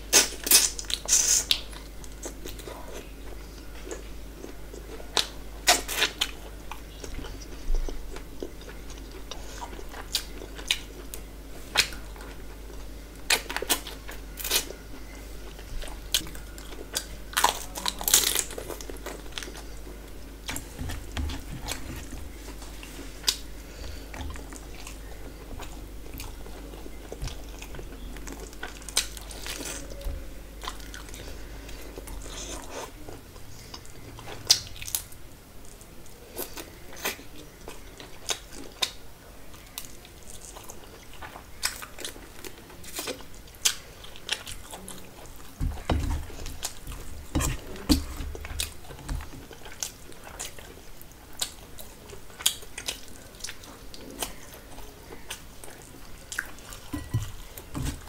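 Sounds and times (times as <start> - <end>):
person chewing crunchy food: 0.0 - 58.0
steady low hum: 0.0 - 58.0.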